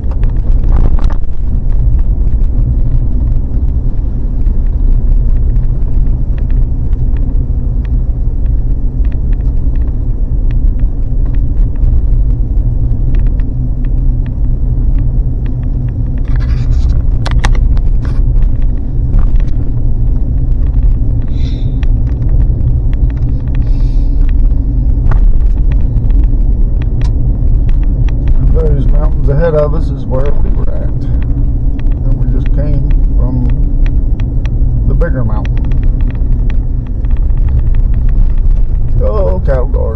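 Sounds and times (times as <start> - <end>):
vehicle rumble on rough road: 0.0 - 39.9.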